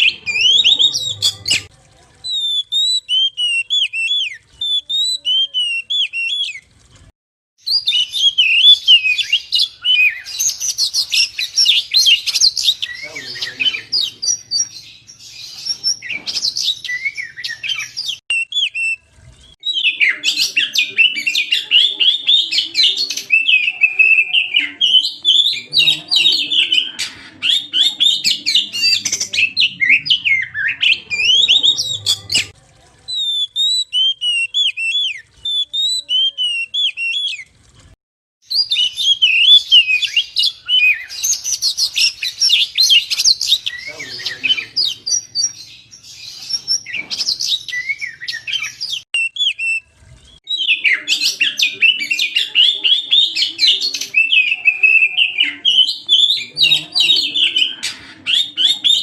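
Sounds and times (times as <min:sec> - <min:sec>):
bird singing whistles and trills: 0:00.0 - 0:01.7, 0:02.3 - 0:06.6, 0:07.6 - 0:19.0, 0:19.6 - 0:32.5, 0:33.1 - 0:37.5, 0:38.5 - 0:59.0.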